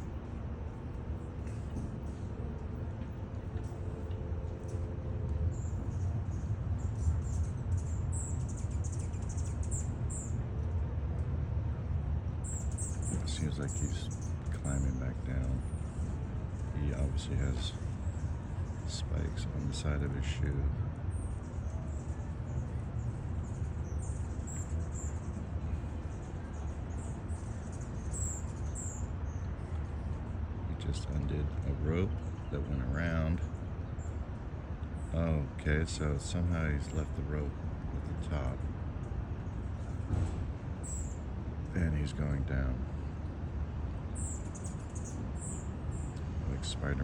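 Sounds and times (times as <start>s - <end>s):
small birds chirping: 0.0s - 10.4s, 12.4s - 47.0s
steady low rumble: 0.0s - 44.9s, 45.6s - 47.0s.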